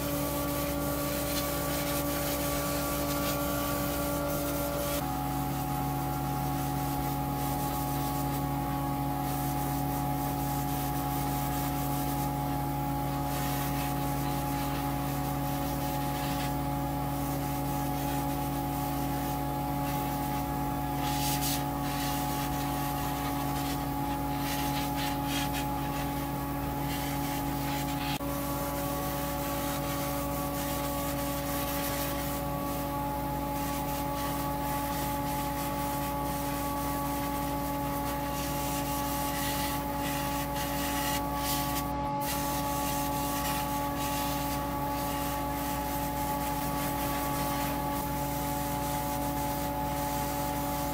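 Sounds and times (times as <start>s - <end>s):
extraction fan humming: 0.0s - 50.9s
spray gun hissing: 0.0s - 50.9s.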